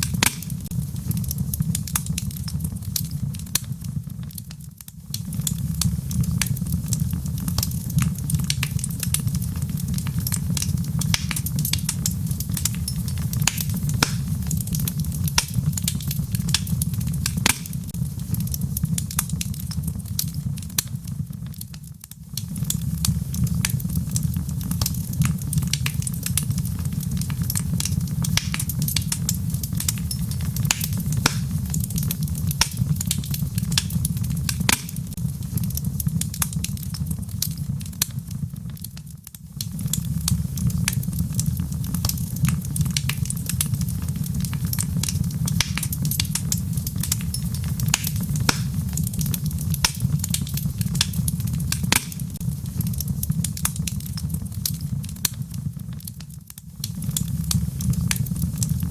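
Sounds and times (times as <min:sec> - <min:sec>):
burning wood crackling and popping: 0:00.0 - 0:58.9
fire flames rumbling: 0:00.0 - 0:58.9.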